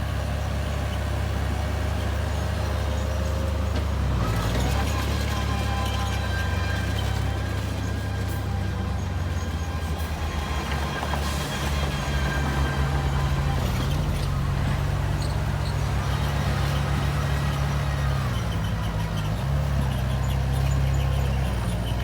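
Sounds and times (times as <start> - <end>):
bulldozer diesel engine under load: 0.0 - 22.0.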